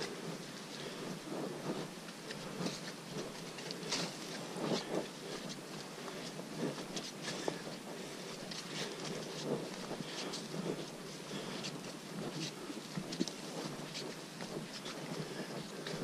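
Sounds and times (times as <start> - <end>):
background hiss: 0.0 - 16.0
footsteps on muddy trail: 0.0 - 16.0.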